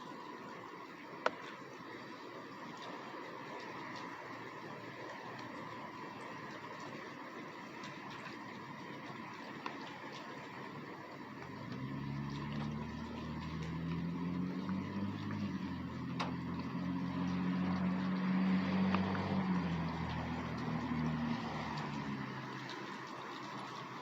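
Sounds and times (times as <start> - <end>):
rain: 0.0 - 24.0
raindrop ticks: 0.0 - 24.0
vehicle engine hum: 0.0 - 24.0.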